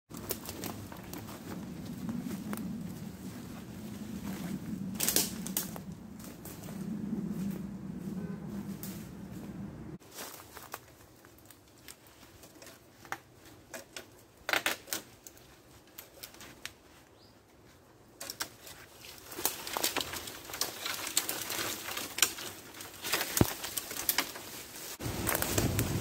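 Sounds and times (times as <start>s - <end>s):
twigs clicking and snapping: 0.1s - 7.7s, 10.1s - 17.0s, 18.1s - 26.0s
leaves rustling: 0.1s - 26.0s.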